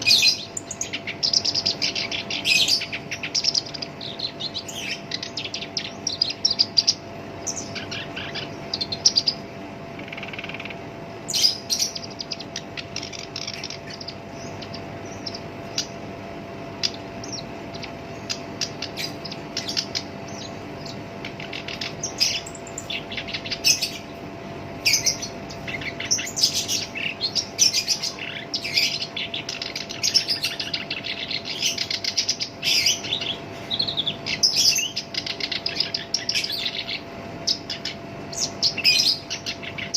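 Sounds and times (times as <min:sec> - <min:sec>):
faint steady hum: 0:00.0 - 0:39.9
warbler chattering song: 0:00.0 - 0:39.9.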